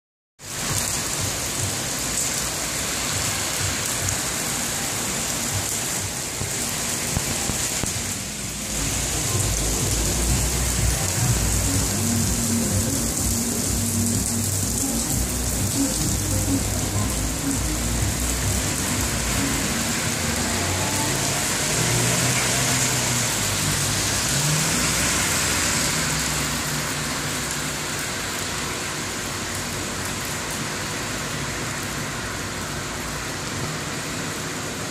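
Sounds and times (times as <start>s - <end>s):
cars on wet road: 0.4s - 34.9s
heavy rain on pavement: 0.4s - 34.9s.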